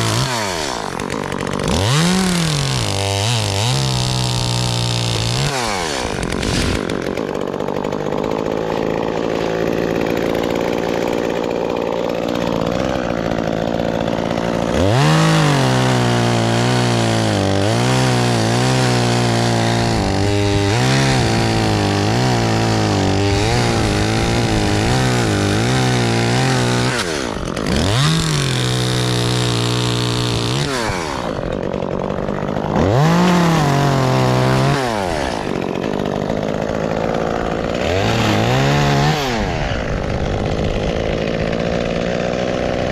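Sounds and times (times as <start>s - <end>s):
chainsaw cutting wood: 0.0s - 42.9s.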